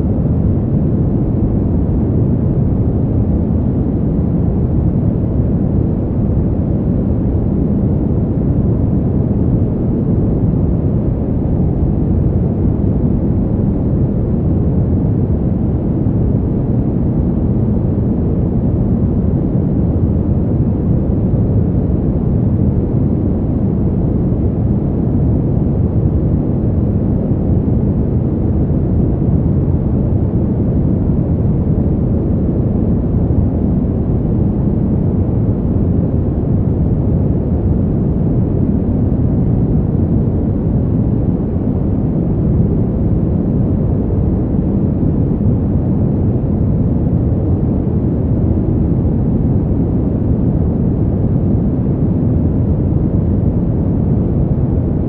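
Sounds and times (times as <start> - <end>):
steady low wind noise: 0.0 - 55.0.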